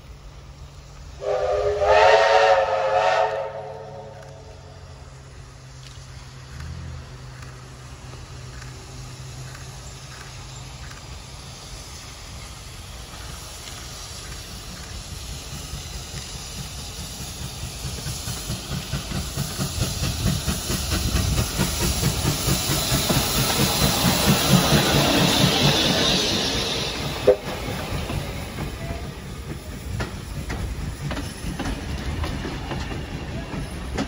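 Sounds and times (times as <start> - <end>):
steam hissing: 0.0 - 34.0
steam locomotive chuffing: 0.0 - 34.0.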